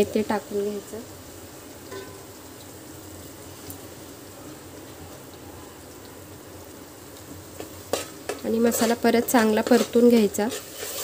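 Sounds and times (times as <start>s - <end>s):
paste sizzling and bubbling in pot: 0.0s - 11.0s.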